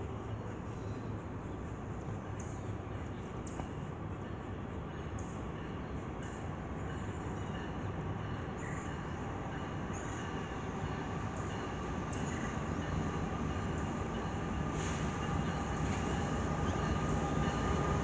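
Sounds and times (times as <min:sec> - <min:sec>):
distant diesel freight train rumble: 0:00.0 - 0:18.0.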